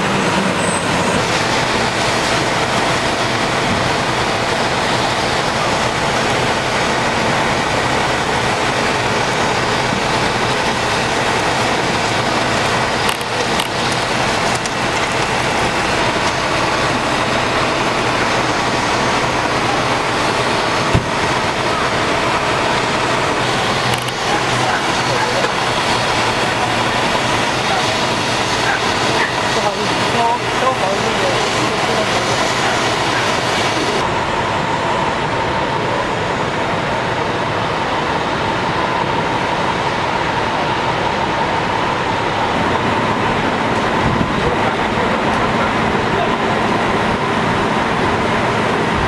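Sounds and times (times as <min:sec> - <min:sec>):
truck engine droning: 0:00.0 - 0:49.0.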